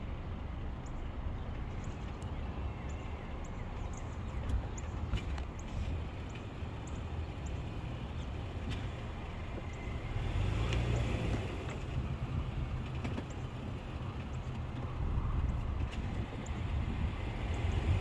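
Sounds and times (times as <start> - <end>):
car engine rumble: 0.0 - 18.0.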